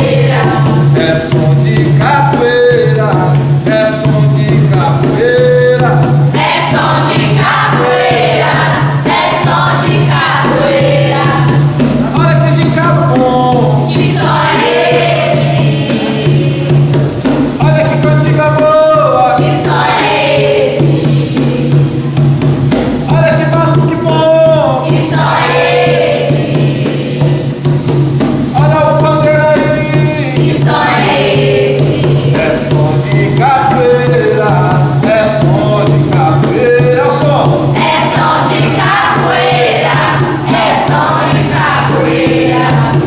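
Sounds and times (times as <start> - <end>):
drums and percussion: 0.0 - 43.0
group singing: 0.0 - 43.0.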